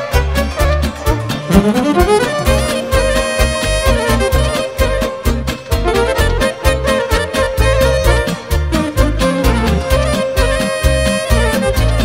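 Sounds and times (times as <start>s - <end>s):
accordion: 0.0s - 12.0s
bass and drum beat: 0.0s - 12.0s
violin and saxophone melody: 0.0s - 12.0s.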